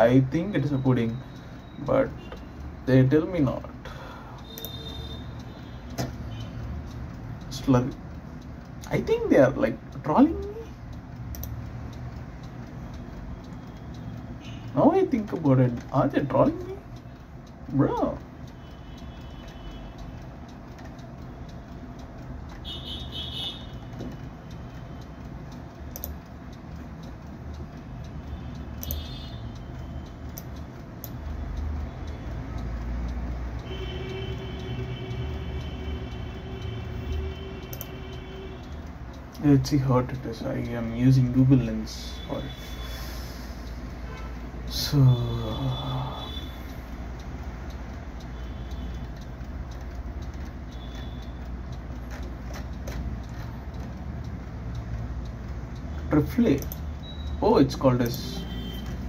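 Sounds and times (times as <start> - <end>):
faint clicks: 0.0 - 59.0.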